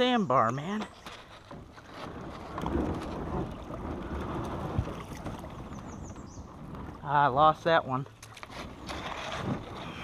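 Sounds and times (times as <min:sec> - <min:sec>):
wind buffeting microphone: 0:01.6 - 0:10.0.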